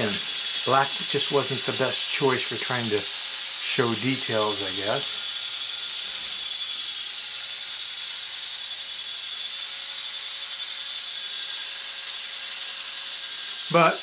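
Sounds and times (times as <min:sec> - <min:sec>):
gears ratcheting chatter: 0:00.0 - 0:14.0
robot motor whirring: 0:00.0 - 0:14.0.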